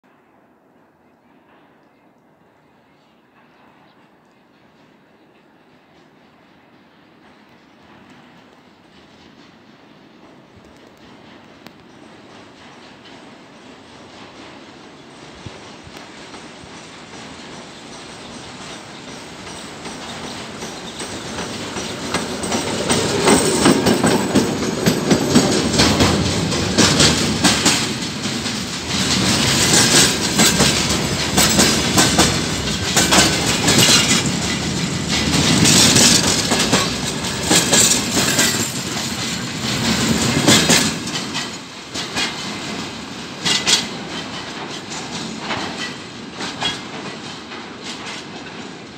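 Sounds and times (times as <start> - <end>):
diesel locomotive passing: 3.1 - 48.9
train wheels clattering over rail joints: 7.3 - 48.9.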